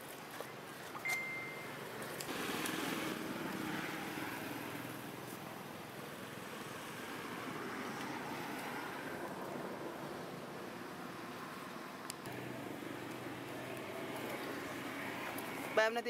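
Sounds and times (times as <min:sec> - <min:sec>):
motor vehicle passing: 0:01.7 - 0:16.0.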